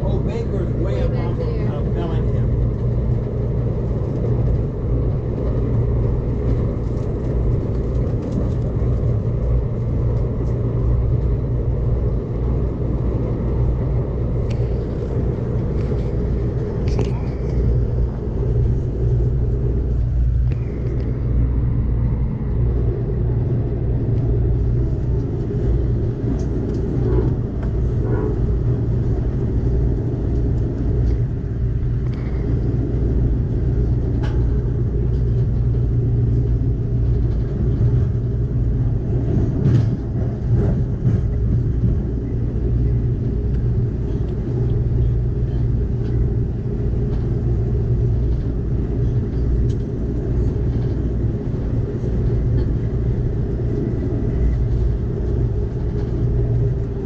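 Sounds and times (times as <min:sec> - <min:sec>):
freight train passing: 0:00.0 - 0:57.0
train wheels rumbling on rails: 0:00.0 - 0:57.0.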